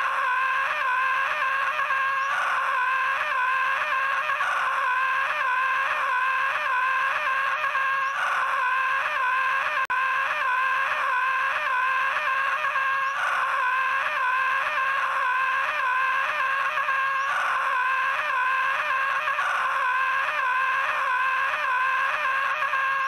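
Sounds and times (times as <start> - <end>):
high-pitched cartoon scream: 0.0 - 23.0.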